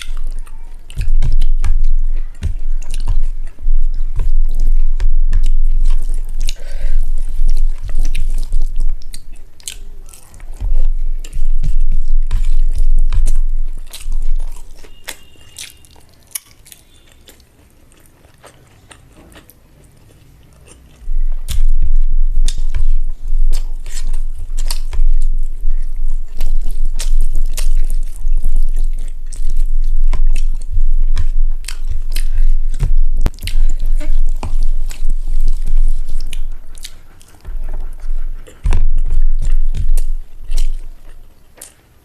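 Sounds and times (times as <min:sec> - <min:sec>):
close-miked chewing: 0:00.0 - 0:42.0
low thumping: 0:00.9 - 0:14.8, 0:21.0 - 0:41.1.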